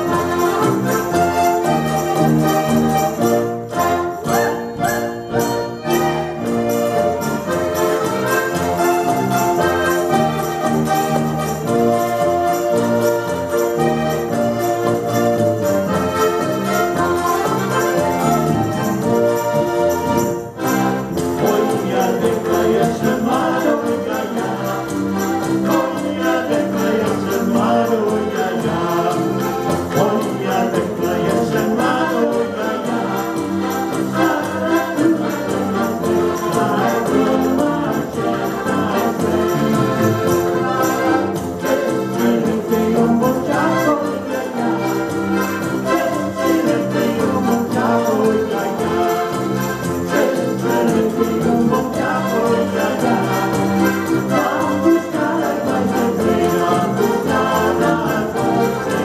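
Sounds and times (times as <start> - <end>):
button accordions playing a tune: 0.0 - 59.0.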